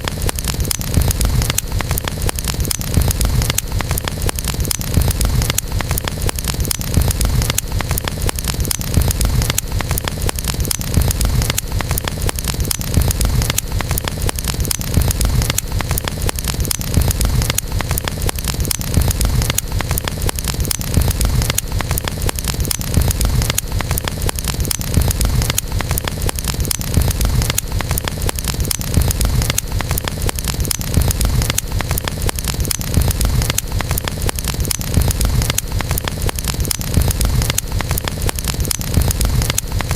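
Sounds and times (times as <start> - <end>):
campfire crackling and popping: 0.0 - 39.9
low rumble of fire: 0.0 - 39.9.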